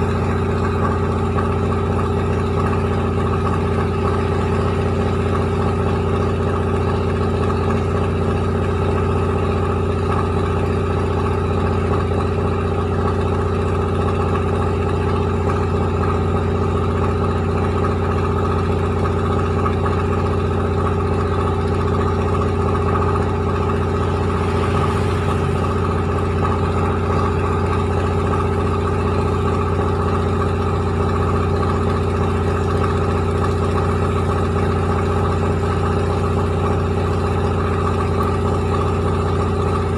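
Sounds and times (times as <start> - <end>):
rice milling machine droning: 0.0 - 39.9.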